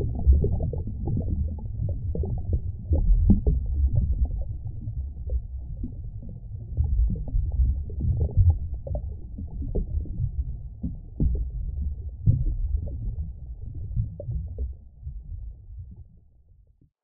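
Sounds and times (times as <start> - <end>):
deep muffled rumbling: 0.0 - 16.4.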